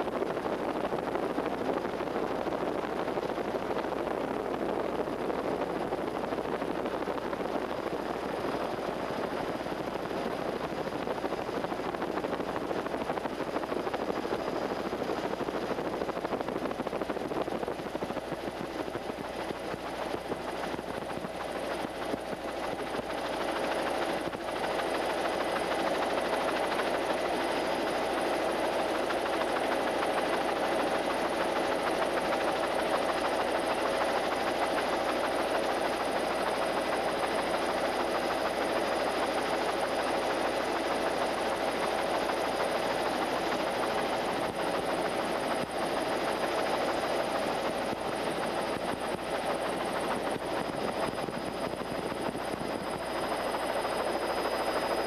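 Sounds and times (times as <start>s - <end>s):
aircraft engine drone: 0.1s - 55.0s.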